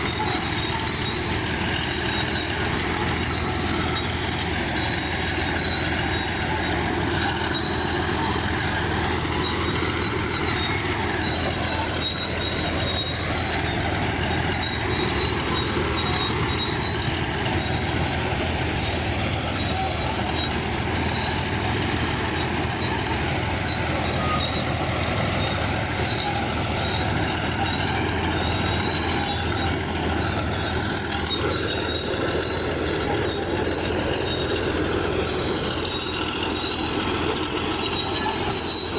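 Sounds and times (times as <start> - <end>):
bulldozer working: 0.0 - 38.9.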